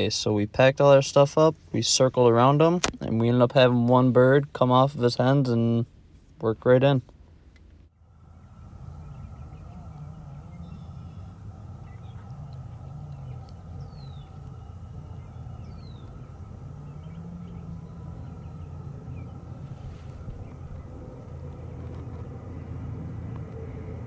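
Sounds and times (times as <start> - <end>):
low rumble and hum: 0.0 - 24.0.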